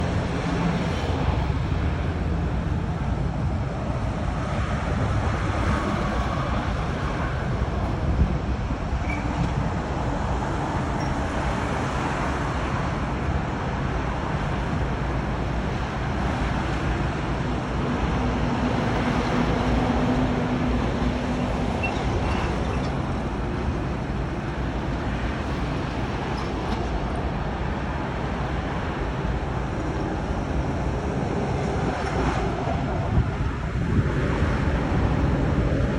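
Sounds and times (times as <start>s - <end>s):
construction machinery engines: 0.0s - 35.9s
passing traffic: 0.0s - 35.9s.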